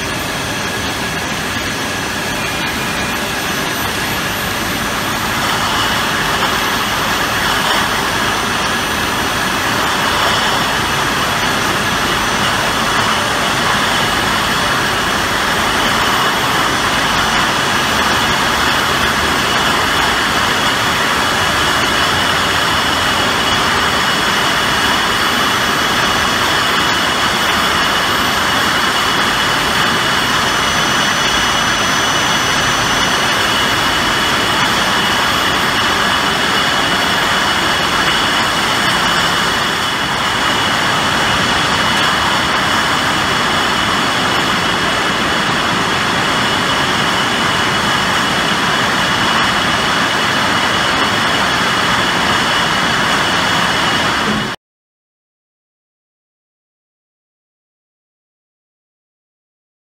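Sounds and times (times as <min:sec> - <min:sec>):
industrial machine whirring: 0:00.0 - 0:54.6.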